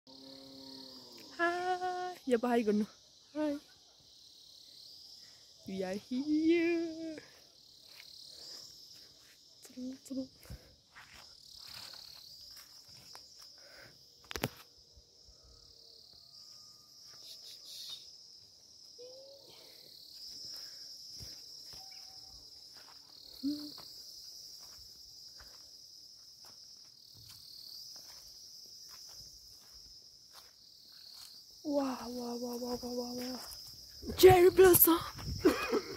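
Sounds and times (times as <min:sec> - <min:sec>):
insects chirring: 0:00.1 - 0:35.9.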